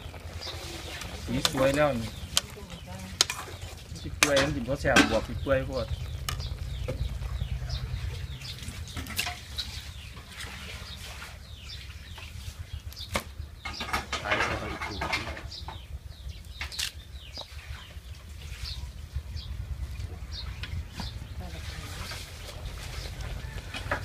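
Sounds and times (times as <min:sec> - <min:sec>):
low steady rumble: 0:00.0 - 0:24.0
small birds chirping: 0:00.0 - 0:24.0.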